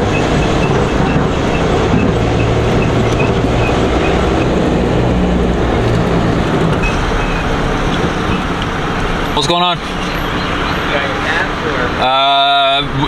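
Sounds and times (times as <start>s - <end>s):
truck engine hum: 0.0s - 13.0s
tyre and road noise: 0.0s - 13.0s.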